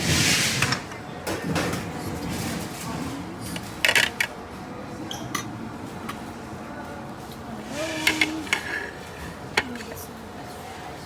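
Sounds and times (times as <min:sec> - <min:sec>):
background chatter: 0:00.9 - 0:11.0.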